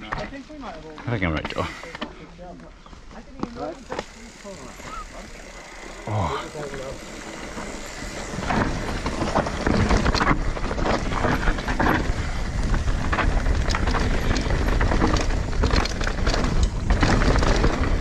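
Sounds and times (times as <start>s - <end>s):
mountain bike rumble and rattle: 0.0s - 18.0s.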